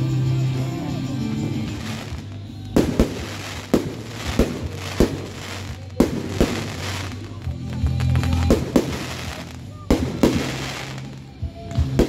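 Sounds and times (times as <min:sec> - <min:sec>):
fireworks bangs: 0:01.5 - 0:12.0.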